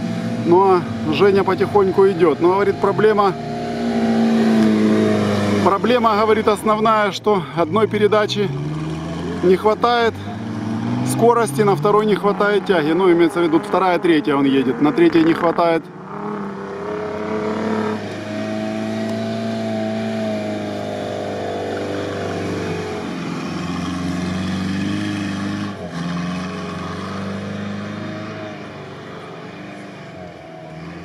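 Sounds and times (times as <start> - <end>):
engine labouring under load: 0.0 - 31.0.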